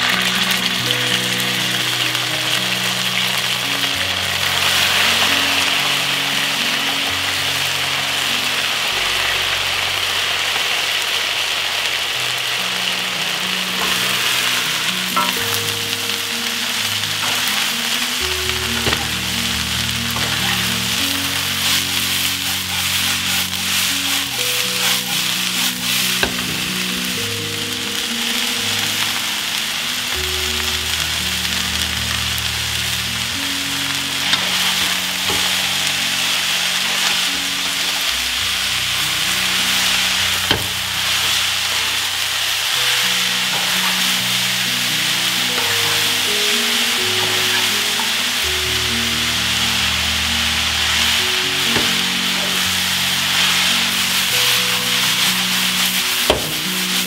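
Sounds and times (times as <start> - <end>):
stir-fry sizzling in a wok: 0.0 - 57.0.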